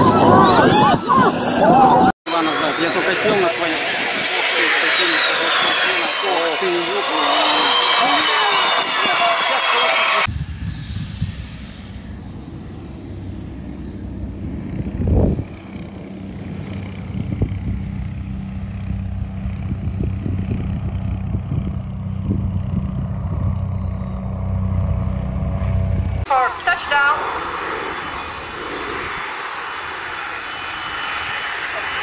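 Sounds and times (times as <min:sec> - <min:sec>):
turboprop airplane engine running: 0:00.0 - 0:32.0.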